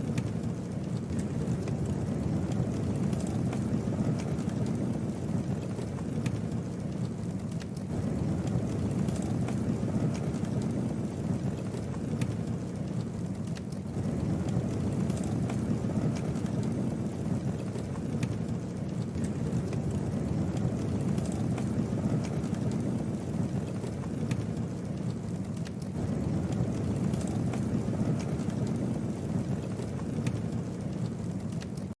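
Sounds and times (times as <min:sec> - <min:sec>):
low rush of flames: 0:00.0 - 0:32.0
wood crackling and popping: 0:00.0 - 0:32.0.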